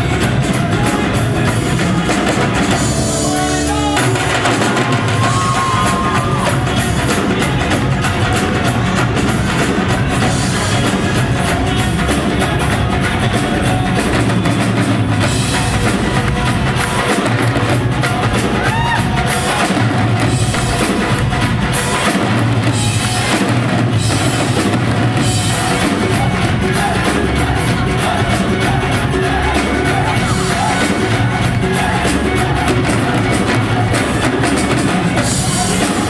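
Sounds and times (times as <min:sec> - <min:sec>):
bass guitar: 0:00.0 - 0:36.0
dhol drums beaten: 0:00.0 - 0:36.0
electric guitar: 0:00.0 - 0:36.0.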